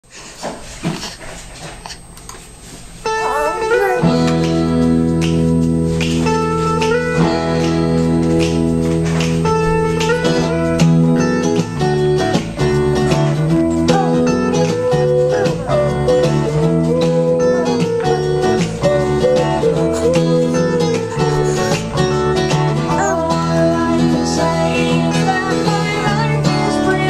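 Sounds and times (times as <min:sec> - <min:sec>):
guitar music with sliding notes: 0:03.0 - 0:27.0.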